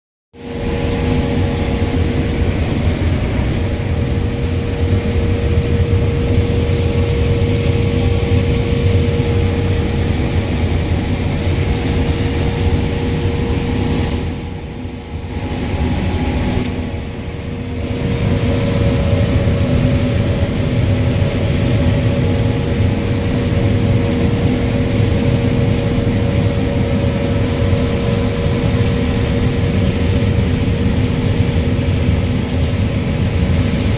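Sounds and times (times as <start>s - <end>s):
combine harvester engine drone: 0.4s - 33.9s.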